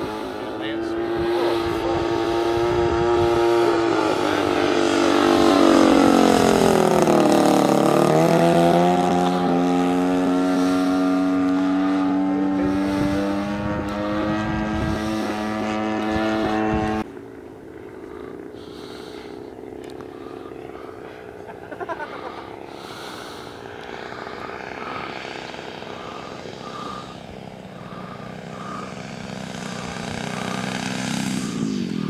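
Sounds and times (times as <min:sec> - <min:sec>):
model airplane engine and propeller: 0:00.0 - 0:32.0.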